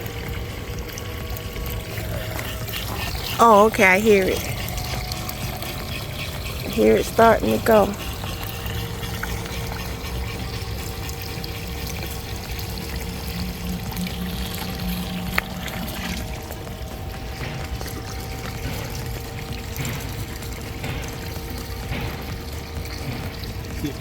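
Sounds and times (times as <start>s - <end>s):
faint hum: 0.0s - 24.0s
water trickling in fountain: 0.0s - 24.0s.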